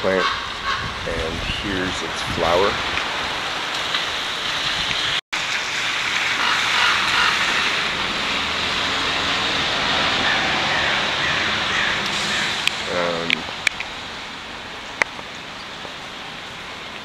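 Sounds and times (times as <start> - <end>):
rain on pavement and leaves: 0.0 - 17.0.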